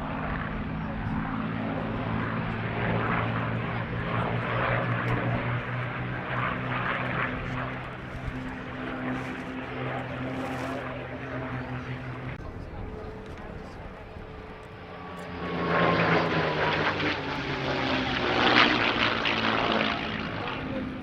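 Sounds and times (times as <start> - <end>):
propeller plane engine flying past: 0.0 - 21.0.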